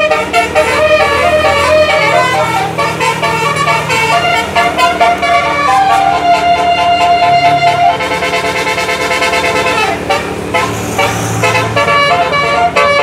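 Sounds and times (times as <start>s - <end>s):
bus musical air horn: 0.0s - 13.0s.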